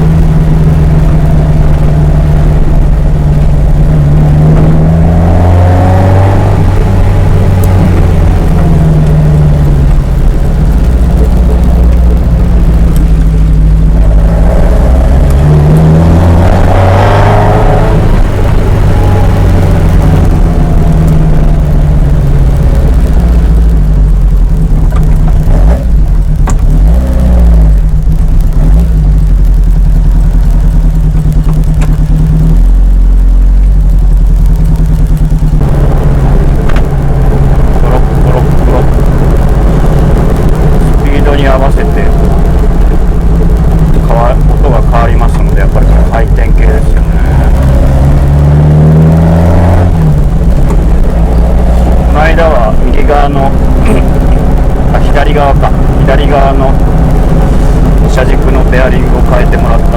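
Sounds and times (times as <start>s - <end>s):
sports car engine revving: 0.0s - 59.9s.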